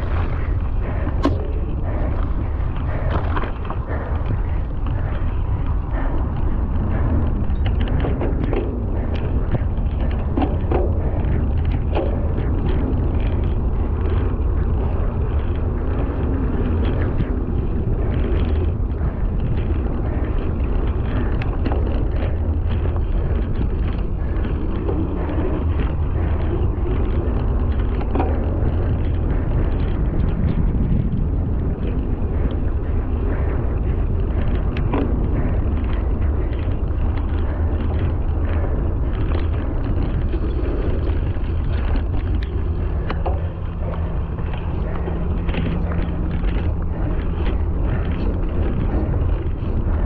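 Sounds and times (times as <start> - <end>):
bike clicks and rattles: 0.0 - 50.0
knobby tyres on dirt: 0.0 - 50.0
wind buffeting microphone: 0.0 - 50.0.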